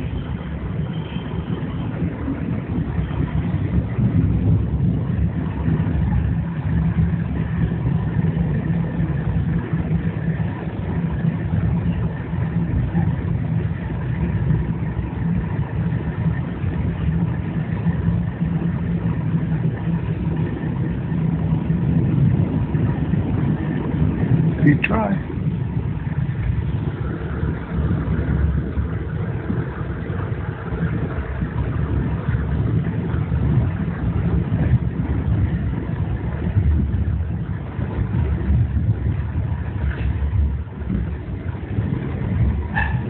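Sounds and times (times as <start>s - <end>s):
train rumbling on track: 0.0s - 43.0s.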